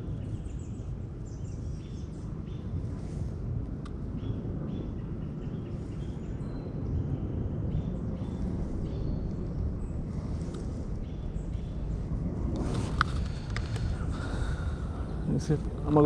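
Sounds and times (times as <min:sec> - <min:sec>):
birds chirping: 0:00.0 - 0:16.0
wind on microphone: 0:00.0 - 0:16.0.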